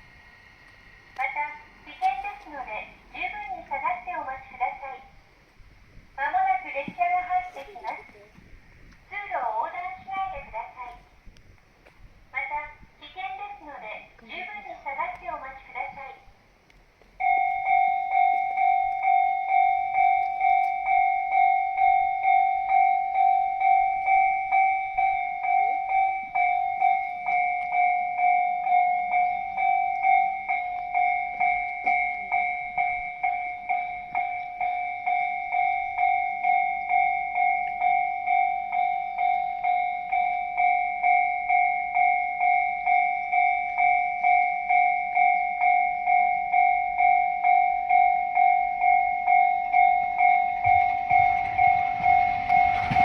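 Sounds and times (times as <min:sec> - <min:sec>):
level crossing warning bell: 0:00.0 - 0:05.4, 0:06.2 - 0:08.4, 0:09.1 - 0:11.2, 0:12.4 - 0:16.4, 0:17.2 - 0:53.0.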